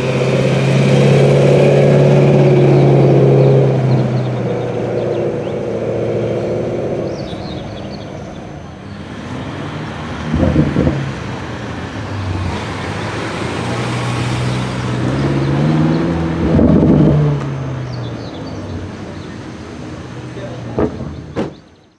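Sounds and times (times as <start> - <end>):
car engine accelerating: 0.0 - 21.6.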